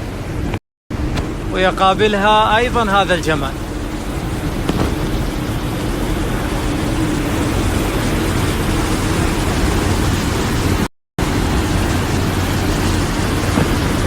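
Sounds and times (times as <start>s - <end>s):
steady rushing wind: 0.0s - 14.0s.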